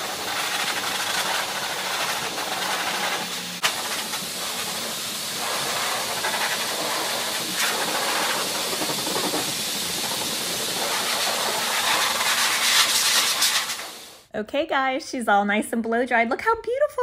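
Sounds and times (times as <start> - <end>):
pet dryer blowing air: 0.0 - 14.3.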